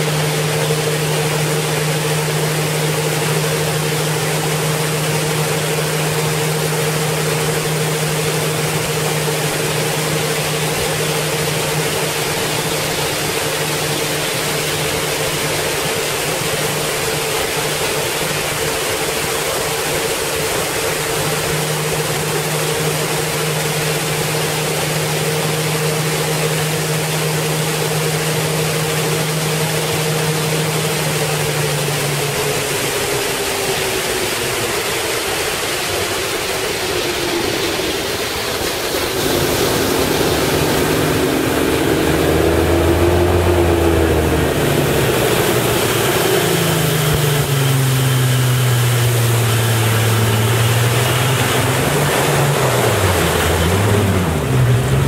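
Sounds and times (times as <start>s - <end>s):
outboard motor running: 0.0s - 55.0s
rush of wind and water: 0.0s - 55.0s.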